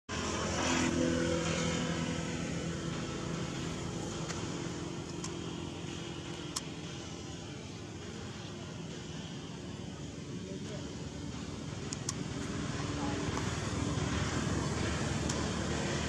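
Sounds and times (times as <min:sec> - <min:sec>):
engine running: 0:00.1 - 0:16.0
steady background noise: 0:00.1 - 0:16.0.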